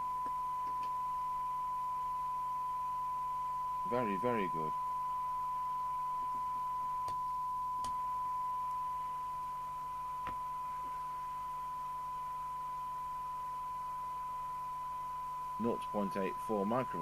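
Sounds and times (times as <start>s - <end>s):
steady test tone from speaker: 0.0s - 17.0s.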